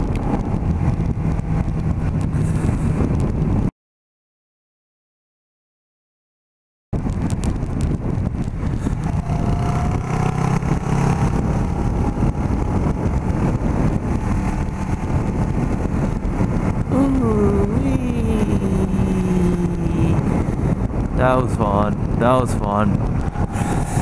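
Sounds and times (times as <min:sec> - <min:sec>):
motorcycle engine running: 0:00.0 - 0:03.7, 0:07.0 - 0:21.2, 0:21.9 - 0:24.0
wind rush: 0:00.0 - 0:03.7, 0:07.0 - 0:24.0.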